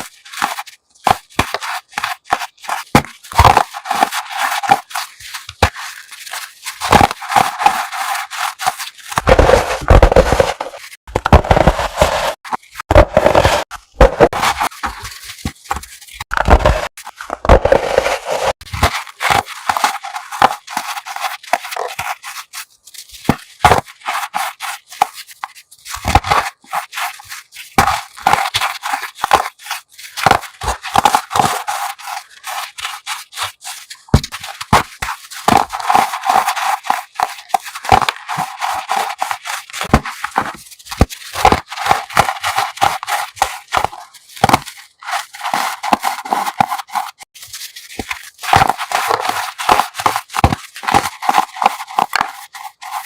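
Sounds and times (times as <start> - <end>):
chalk crunching and snapping: 0.0 - 53.0.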